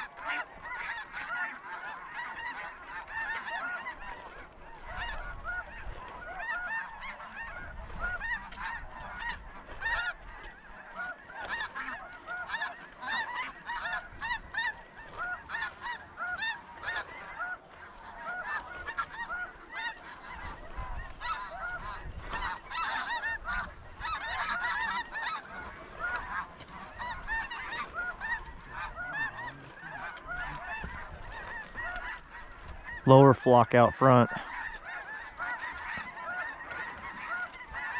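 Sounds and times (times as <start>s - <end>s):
flock of geese honking: 0.0s - 37.9s.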